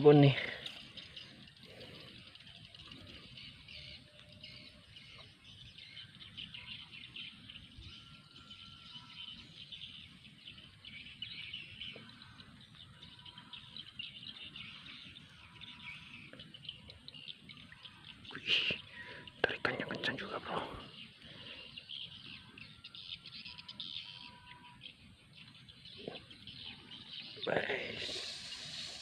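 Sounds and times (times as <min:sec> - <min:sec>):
many small birds chirping: 0:00.0 - 0:29.0.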